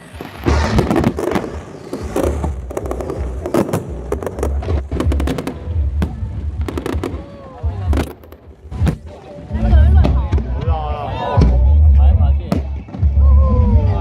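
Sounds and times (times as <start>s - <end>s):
fireworks bangs and crackles: 0.0s - 14.0s
low rumble: 0.2s - 14.0s.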